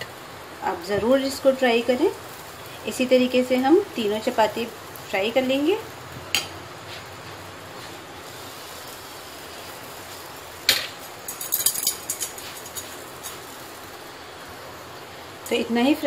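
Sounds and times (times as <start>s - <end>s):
faint frying hiss: 0.0s - 16.0s.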